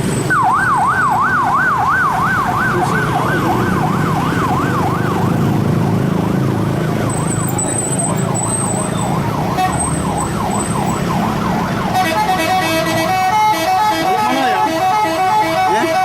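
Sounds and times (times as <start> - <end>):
engine rumble: 0.0 - 14.1
siren-style bus horn wailing: 0.3 - 5.4, 7.0 - 16.0.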